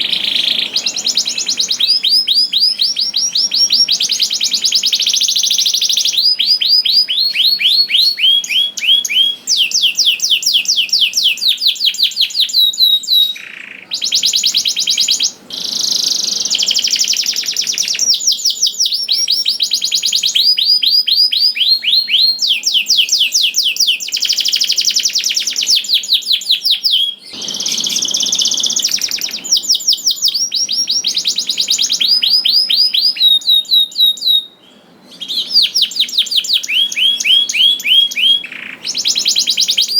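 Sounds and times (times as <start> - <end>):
canary trilling song: 0.0 - 39.9.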